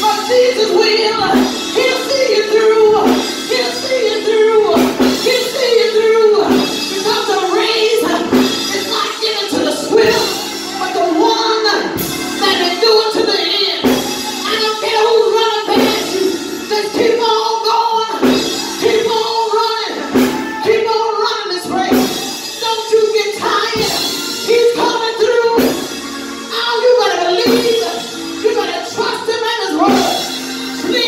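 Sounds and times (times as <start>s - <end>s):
woman singing into a microphone: 0.0s - 25.8s.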